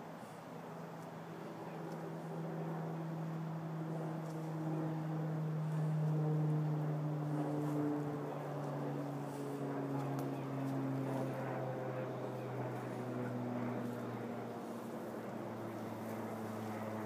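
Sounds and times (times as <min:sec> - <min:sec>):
motor droning: 0:01.8 - 0:17.0.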